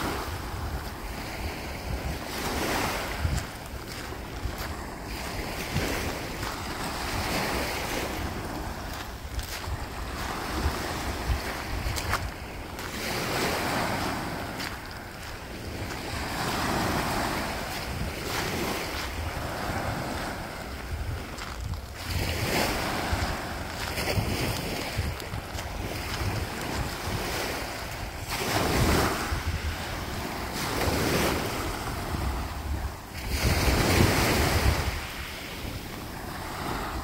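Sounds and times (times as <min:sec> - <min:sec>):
waves washing up a pebbly shore: 0:00.0 - 0:37.0
wind rumble on microphone: 0:00.0 - 0:37.0.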